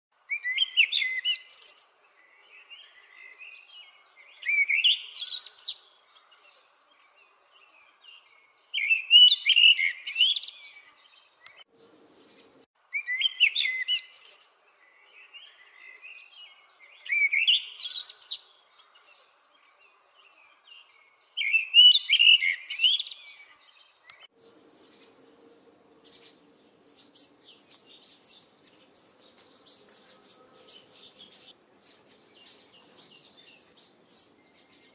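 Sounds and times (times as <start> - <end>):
bird chirping song: 0.2 - 34.9.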